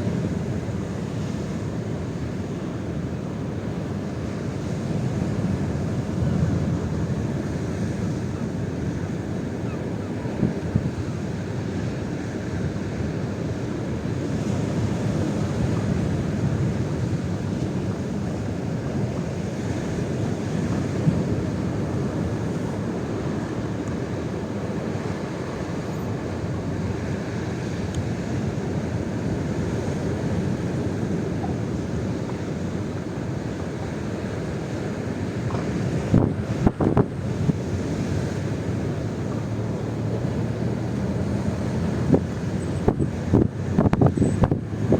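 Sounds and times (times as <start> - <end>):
wind blowing across microphone: 0.0 - 44.9.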